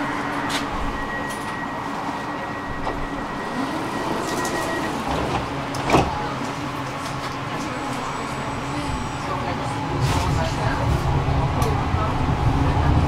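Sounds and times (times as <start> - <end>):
tram running rumble: 0.0 - 13.0.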